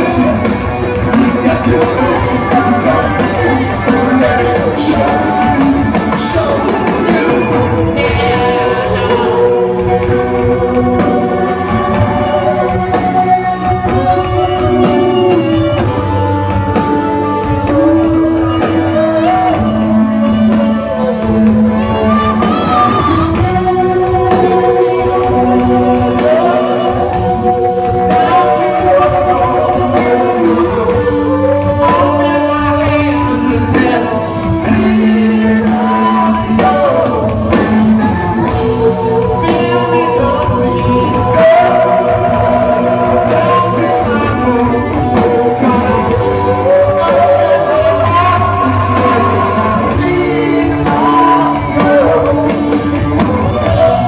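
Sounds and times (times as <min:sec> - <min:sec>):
lead singer singing: 0:00.0 - 0:54.0
live rock band playing: 0:00.0 - 0:54.0
steady drum beat: 0:00.0 - 0:54.0.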